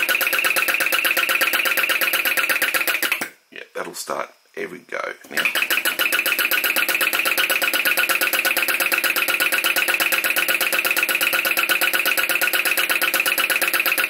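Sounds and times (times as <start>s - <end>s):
small engine fast even beat: 0.0s - 3.3s, 5.4s - 14.0s.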